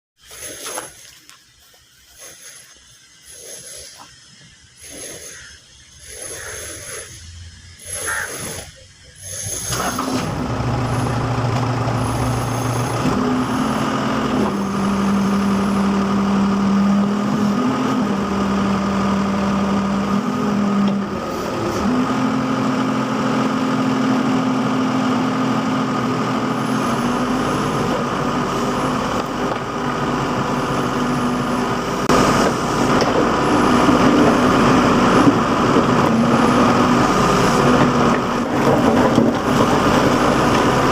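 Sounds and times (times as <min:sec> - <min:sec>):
backhoe diesel engine running: 0:00.2 - 0:40.9.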